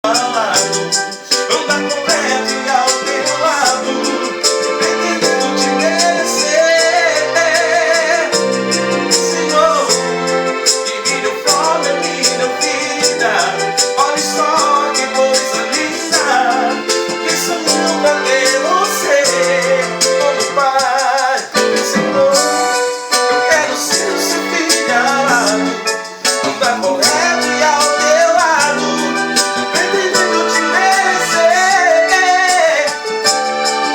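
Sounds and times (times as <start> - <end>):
drum machine beat: 0.0 - 33.9
keyboard chords and bass: 0.0 - 33.9
keyboard lead melody with vibrato: 0.0 - 33.9.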